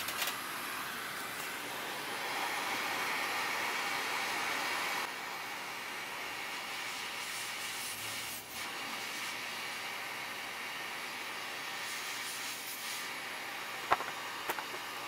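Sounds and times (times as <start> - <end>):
hot-air station hissing: 0.0 - 15.0.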